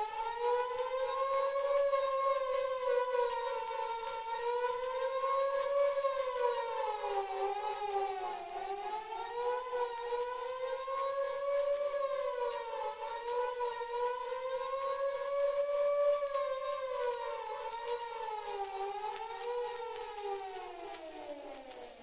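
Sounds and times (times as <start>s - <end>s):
fire engine siren wailing: 0.0s - 22.0s.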